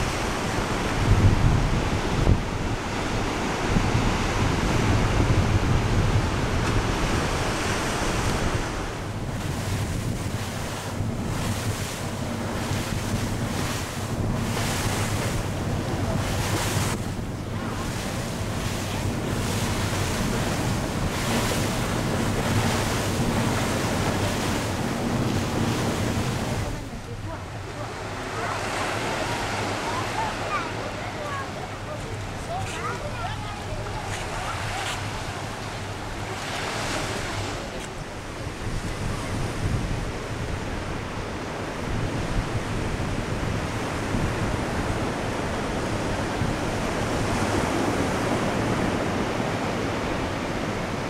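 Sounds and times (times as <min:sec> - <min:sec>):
wind buffeting microphone: 0:00.0 - 0:27.8, 0:28.7 - 0:51.0
sea waves: 0:00.0 - 0:51.0.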